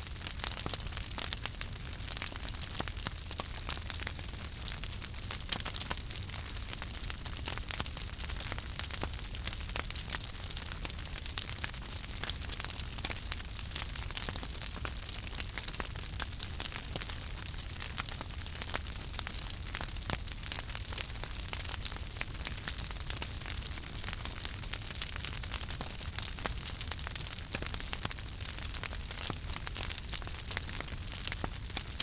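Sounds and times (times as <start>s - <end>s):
low rumble of flames: 0.0s - 32.0s
wood fire crackling: 0.0s - 32.0s.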